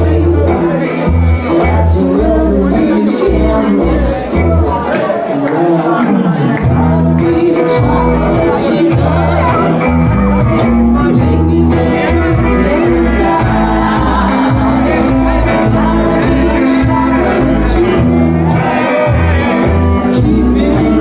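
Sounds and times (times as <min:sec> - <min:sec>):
double bass: 0:00.0 - 0:04.9, 0:06.6 - 0:21.0
banjo: 0:00.0 - 0:21.0
person singing: 0:00.0 - 0:21.0.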